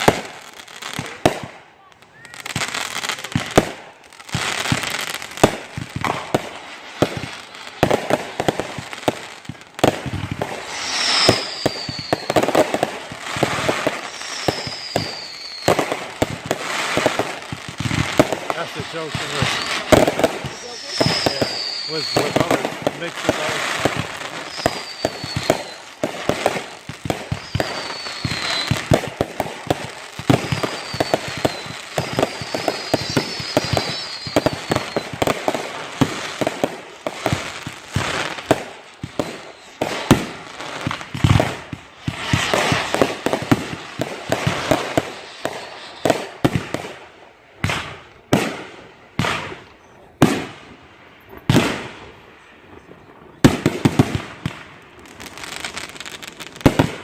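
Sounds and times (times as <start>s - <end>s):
fireworks bangs and crackling: 0.0s - 57.0s
whistling fireworks falling in pitch: 0.0s - 57.0s.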